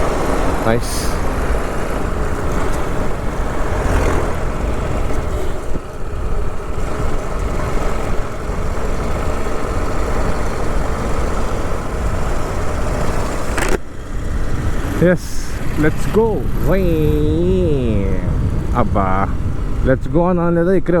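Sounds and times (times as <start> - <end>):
motorcycle engine running: 0.0 - 20.4
wind rushing: 0.0 - 20.5.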